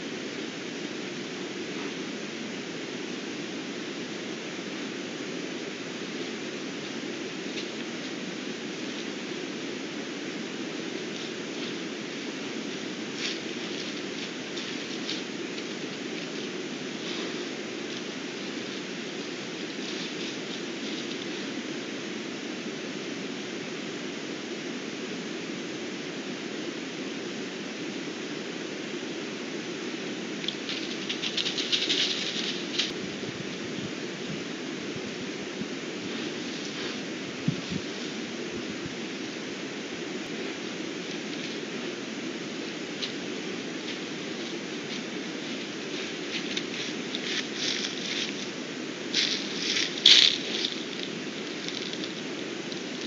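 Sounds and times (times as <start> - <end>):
camera recording hiss: 0.0 - 53.0.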